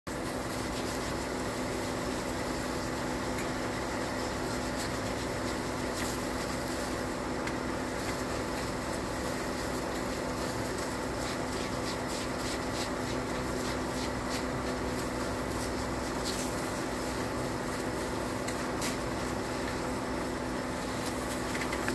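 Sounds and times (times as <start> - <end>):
steady motor hum: 0.1 - 21.9.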